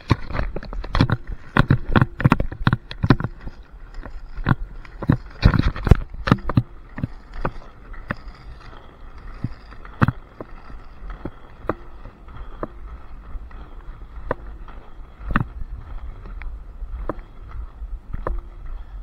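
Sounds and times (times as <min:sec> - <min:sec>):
inline skates rolling on asphalt: 0:00.0 - 0:19.0
skate wheels clacking and knocking: 0:00.0 - 0:19.0.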